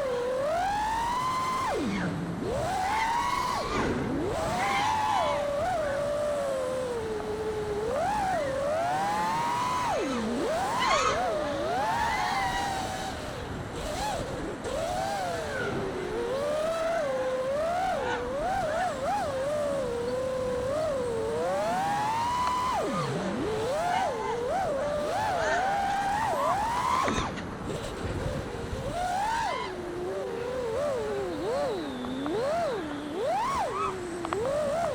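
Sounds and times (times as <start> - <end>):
drone motors and propellers whining: 0.0 - 34.9.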